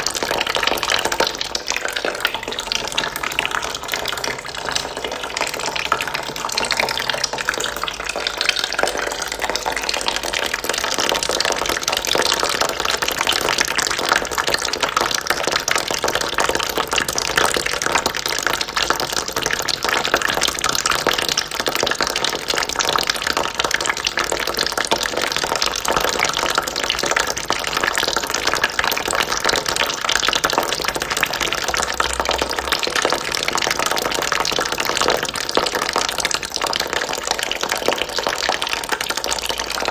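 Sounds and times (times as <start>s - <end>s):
water trickling into a bucket: 0.0s - 39.9s.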